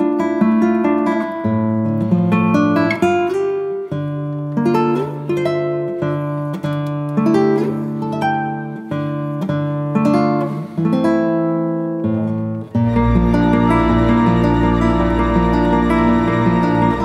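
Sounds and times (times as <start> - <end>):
acoustic guitar plucking and strumming: 0.0 - 17.0.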